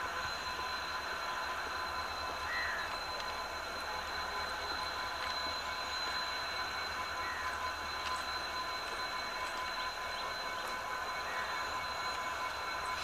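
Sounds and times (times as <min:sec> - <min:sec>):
diesel locomotive engine drone: 0:00.0 - 0:13.0
thin high whine: 0:00.0 - 0:13.0.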